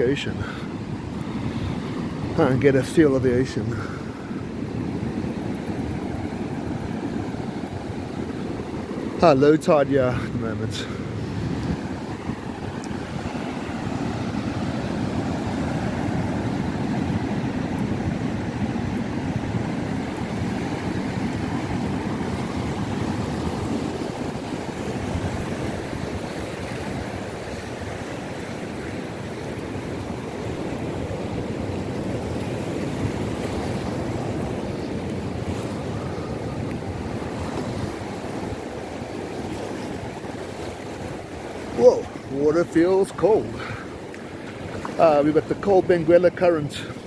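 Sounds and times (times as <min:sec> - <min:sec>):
surf washing up beach: 0:00.0 - 0:47.0.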